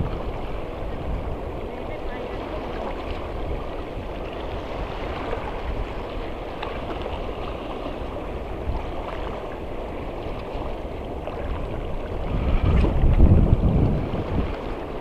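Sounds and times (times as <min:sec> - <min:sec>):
sea water lapping on rocks: 0:00.0 - 0:15.0.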